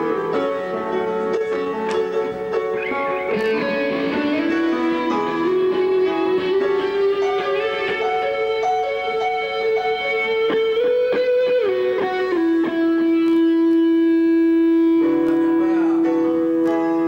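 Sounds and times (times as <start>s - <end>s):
electric guitar sustained notes: 0.0s - 17.0s.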